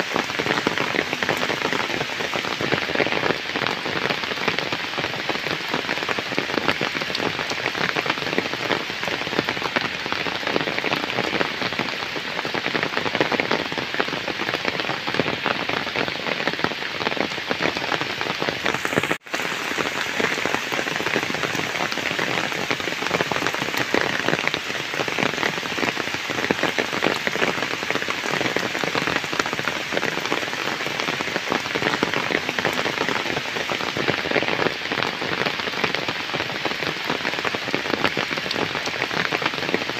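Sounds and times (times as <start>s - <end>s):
heavy rain on puddles: 0.0s - 39.9s.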